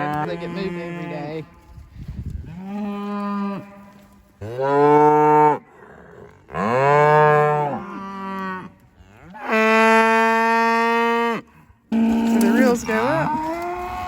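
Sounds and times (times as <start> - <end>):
cattle mooing: 2.5 - 14.0.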